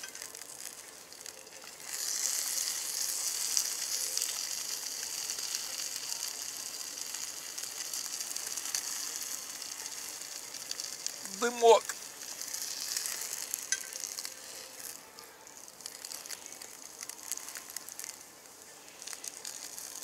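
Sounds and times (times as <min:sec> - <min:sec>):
sandwich sizzling in a skillet: 0:00.0 - 0:20.0.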